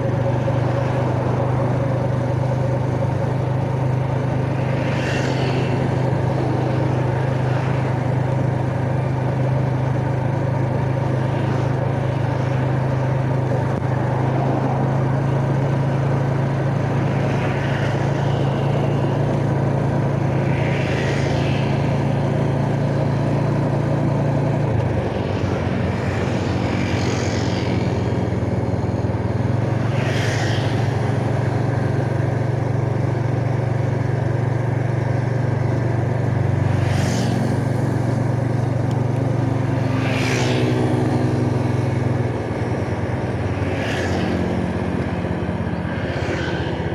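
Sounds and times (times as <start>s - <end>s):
motorcycle engine running: 0.0s - 46.9s
road and wind noise: 0.0s - 46.9s.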